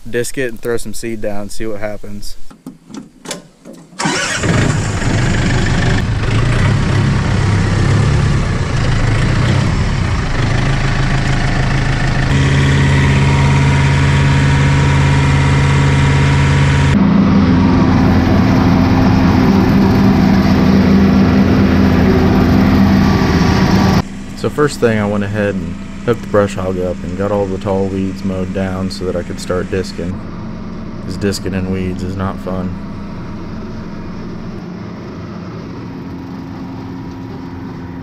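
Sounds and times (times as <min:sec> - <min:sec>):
tractor engine running under load: 0:04.0 - 0:38.0.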